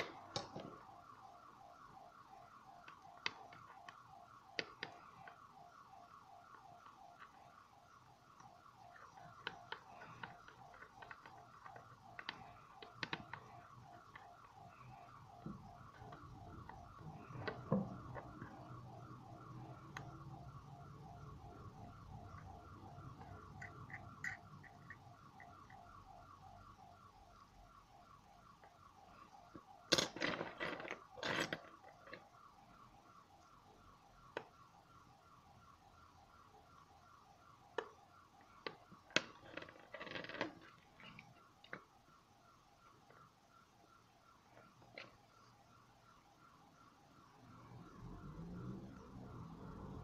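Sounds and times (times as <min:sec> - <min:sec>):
faint warbling siren: 0:00.0 - 0:50.0.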